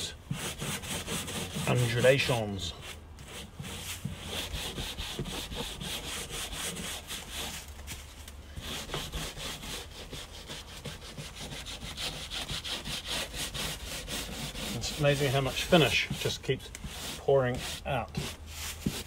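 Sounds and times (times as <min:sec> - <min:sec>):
brush scrubbing wood: 0:00.0 - 0:19.0.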